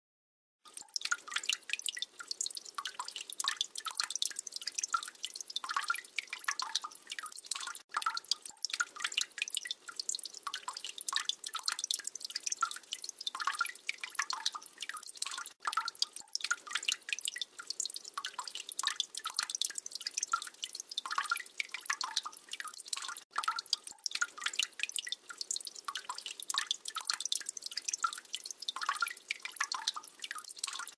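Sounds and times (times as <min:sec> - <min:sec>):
water dripping and plopping: 0:00.6 - 0:30.9.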